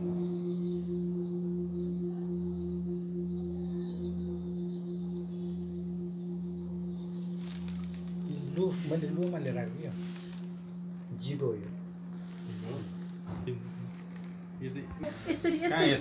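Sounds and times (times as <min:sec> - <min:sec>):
singing bowl ringing: 0:00.0 - 0:16.0.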